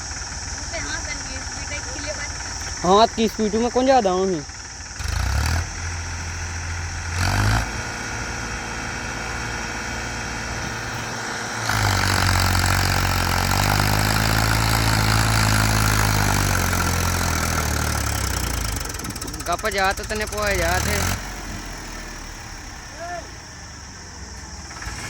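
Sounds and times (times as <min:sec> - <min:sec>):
vehicle engine running: 0:00.0 - 0:25.0
louder engine revving: 0:02.6 - 0:23.5, 0:24.6 - 0:25.0.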